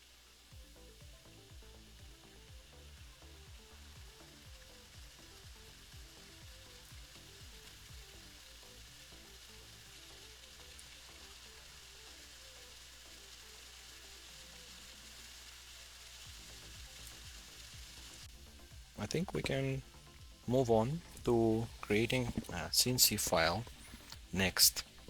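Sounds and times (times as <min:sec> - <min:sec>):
faint background music: 0:00.0 - 0:25.0
steady hiss: 0:00.0 - 0:25.0.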